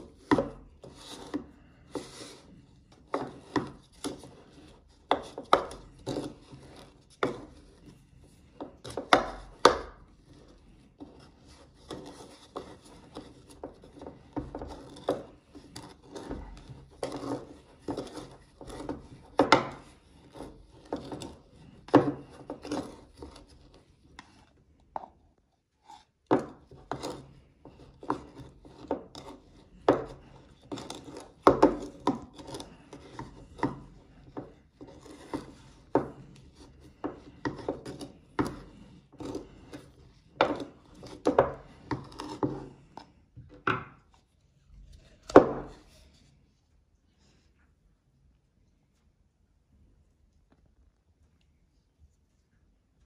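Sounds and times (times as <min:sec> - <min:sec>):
pestle scraping in mortar: 0:00.0 - 0:25.1, 0:25.8 - 0:46.3.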